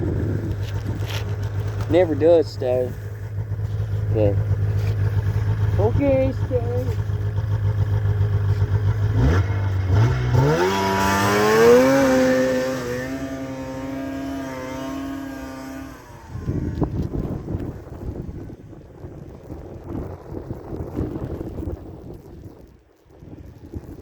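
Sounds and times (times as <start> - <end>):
snowmobile engine idling and revving: 0.0 - 24.0
wind noise: 0.0 - 24.0.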